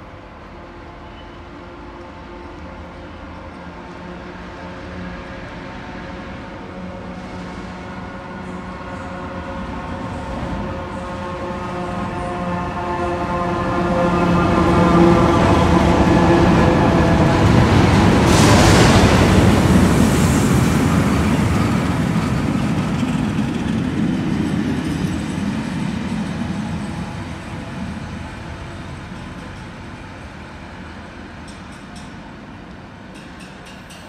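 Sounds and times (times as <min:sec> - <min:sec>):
diesel locomotive hum: 0:00.0 - 0:34.0
train rumbling on rails: 0:00.0 - 0:34.0.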